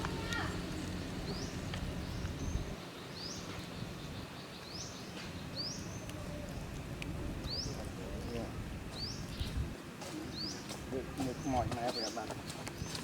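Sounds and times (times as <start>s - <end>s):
bird chirping: 0.0s - 9.6s, 10.2s - 13.0s
outdoor background hum: 0.0s - 13.0s.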